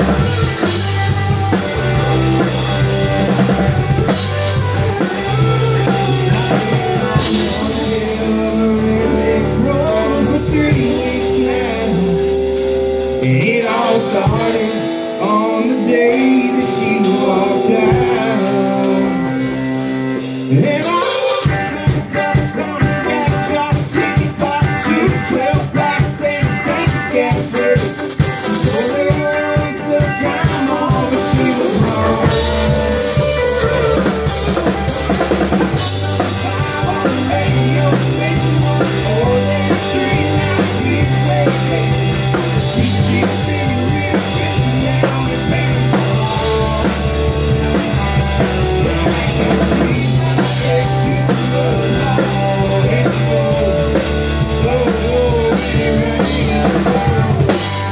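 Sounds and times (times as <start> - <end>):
bass line: 0.0 - 57.9
drum kit: 0.0 - 57.9
electric guitar: 0.0 - 57.9
man singing: 0.0 - 57.9.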